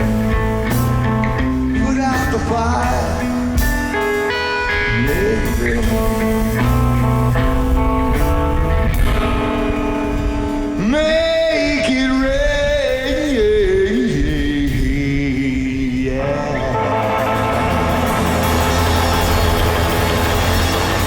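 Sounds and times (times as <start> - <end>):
live band playing guitar music: 0.0 - 21.0.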